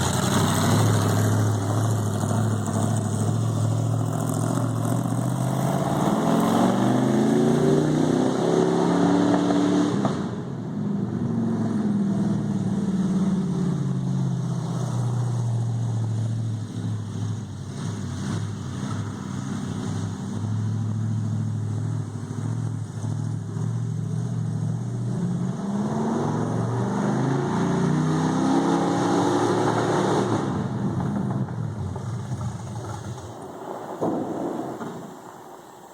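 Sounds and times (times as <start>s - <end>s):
car engine accelerating: 0.0s - 35.2s.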